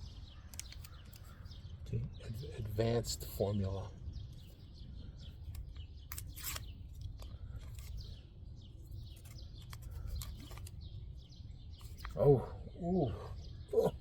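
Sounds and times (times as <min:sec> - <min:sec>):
low outdoor background rumble: 0:00.0 - 0:14.0
small birds chirping: 0:00.0 - 0:14.0.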